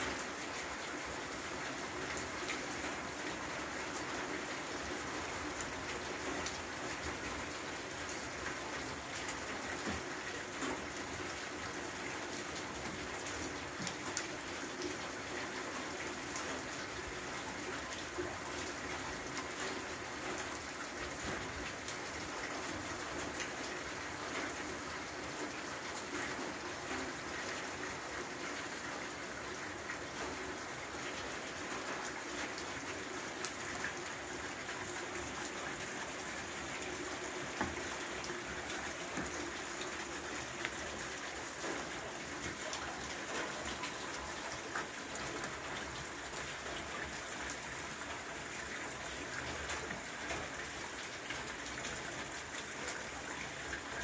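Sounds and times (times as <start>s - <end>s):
steady rain on flooded stone: 0.0s - 54.0s.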